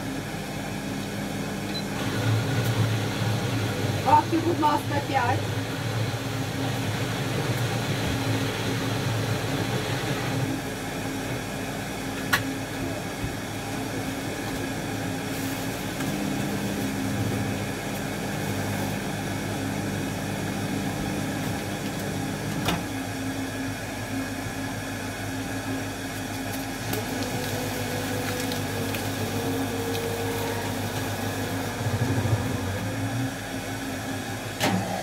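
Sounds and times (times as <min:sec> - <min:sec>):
cooling equipment humming: 0:00.0 - 0:35.0.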